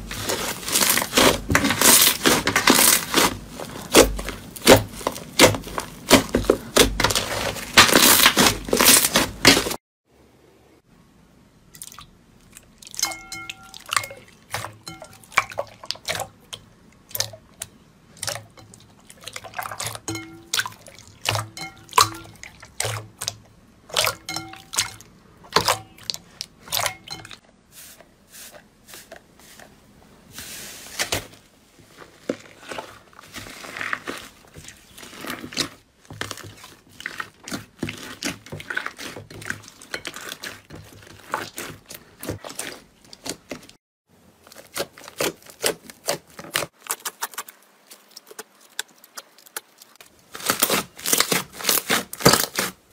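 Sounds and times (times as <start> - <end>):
slime crunching: 0.0 - 9.8, 12.5 - 27.4, 31.9 - 43.7, 44.4 - 52.8.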